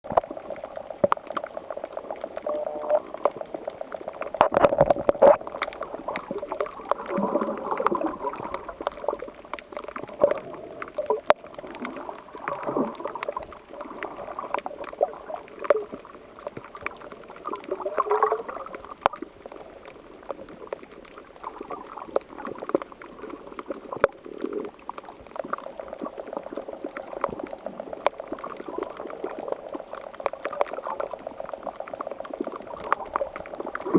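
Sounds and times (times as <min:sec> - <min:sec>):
sea water washing on shore: 0:00.1 - 0:33.9.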